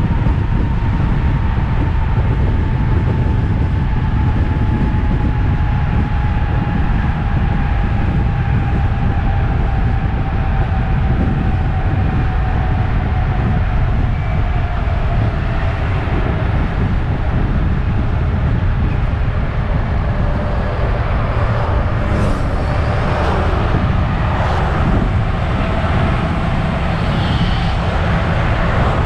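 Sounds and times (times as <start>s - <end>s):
bus engine rumbling: 0.0s - 29.0s
road noise: 0.0s - 29.0s.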